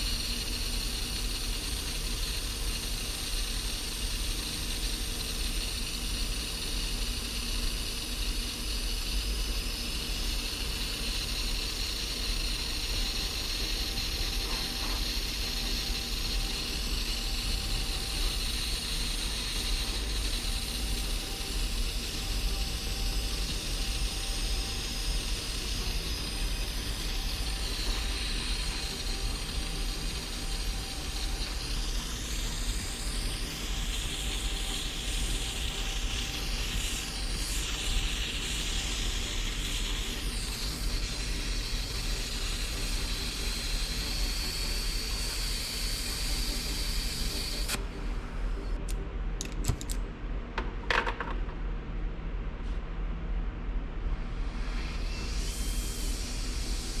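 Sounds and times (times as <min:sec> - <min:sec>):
blowtorch flame hissing: 0:00.0 - 0:48.9, 0:54.5 - 0:57.0.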